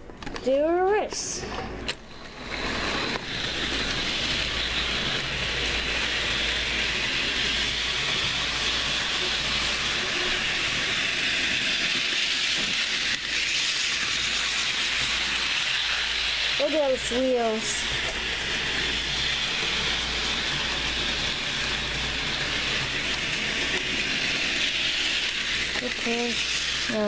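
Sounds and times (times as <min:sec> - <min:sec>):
model train motor whirring: 0:01.9 - 0:27.0.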